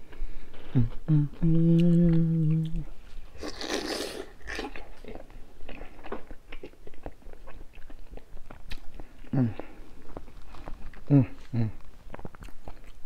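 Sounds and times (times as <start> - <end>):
chewing with smacks: 0.1 - 13.0.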